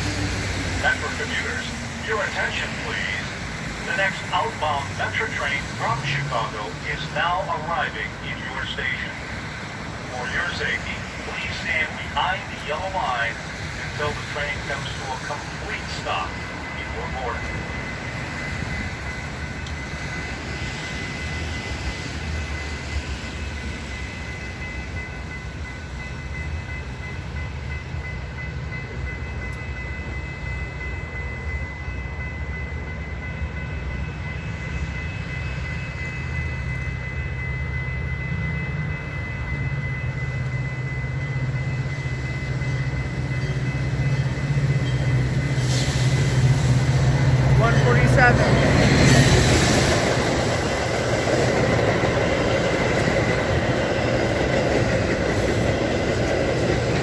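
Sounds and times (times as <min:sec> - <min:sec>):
diesel locomotive engine rumble: 0:00.0 - 0:57.0.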